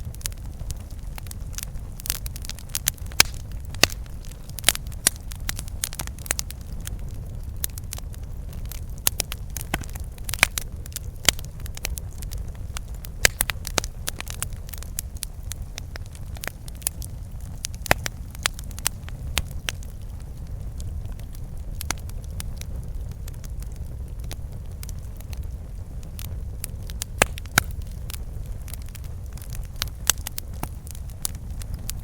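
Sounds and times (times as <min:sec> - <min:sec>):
campfire crackling: 0:00.0 - 0:32.0
steady low rumble: 0:00.0 - 0:32.0.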